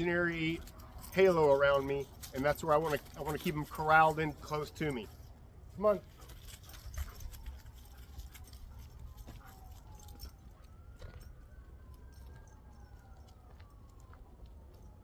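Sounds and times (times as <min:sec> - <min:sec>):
distant siren wailing: 0:00.0 - 0:15.0.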